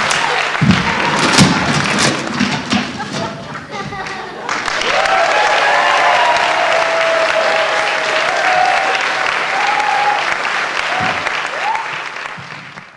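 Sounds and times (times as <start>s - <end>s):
audience applauding: 0.0s - 12.9s
people cheering: 0.0s - 12.9s.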